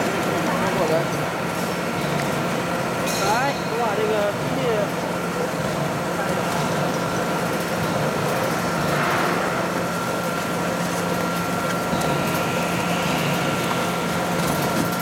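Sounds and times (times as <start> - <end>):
dough mixer motor hum: 0.0 - 15.0.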